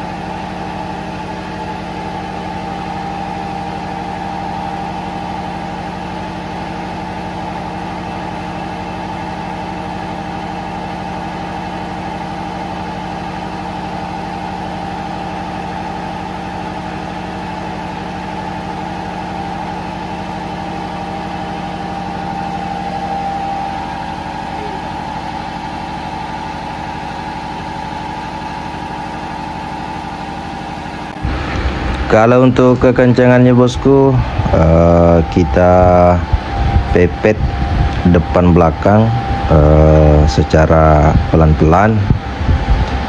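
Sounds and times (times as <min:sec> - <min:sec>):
engine-room machinery drone: 0:00.0 - 0:43.0.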